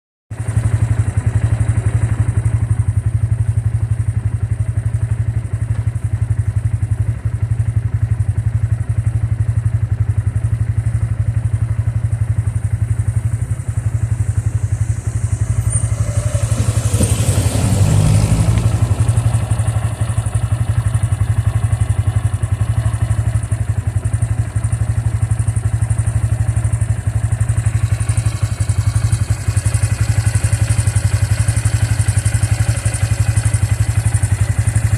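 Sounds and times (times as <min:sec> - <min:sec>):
motorcycle engine idling: 0:00.3 - 0:34.9.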